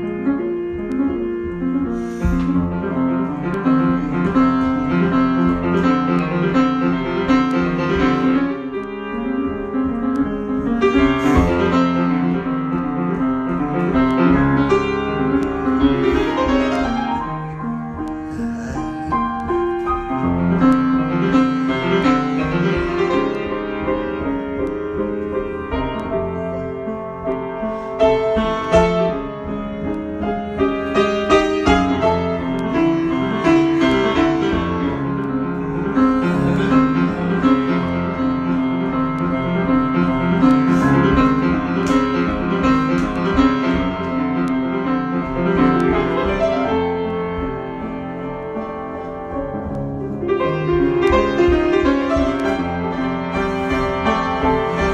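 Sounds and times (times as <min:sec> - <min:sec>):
solo piano: 0:00.0 - 0:54.9.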